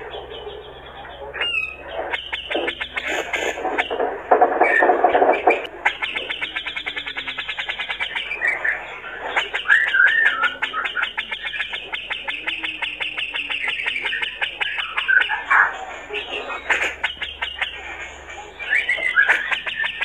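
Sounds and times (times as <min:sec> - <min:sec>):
bird singing chattering rattle: 0:00.0 - 0:20.0
bird warbled whistle: 0:01.3 - 0:20.0.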